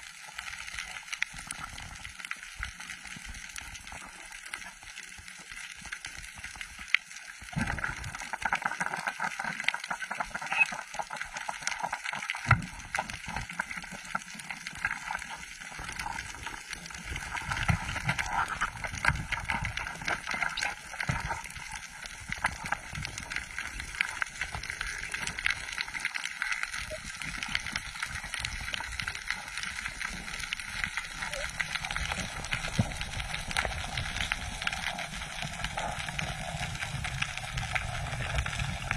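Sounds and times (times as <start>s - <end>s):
underwater crackle of clicks: 0.0s - 38.9s.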